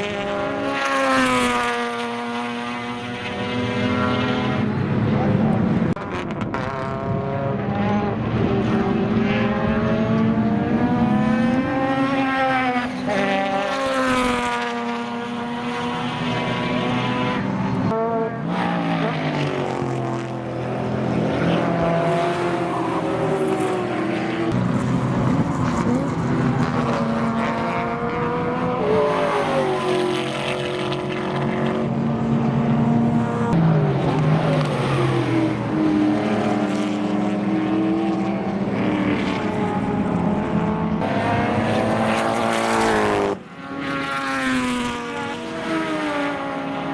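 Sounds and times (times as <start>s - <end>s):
racing car engines: 0.0s - 46.9s.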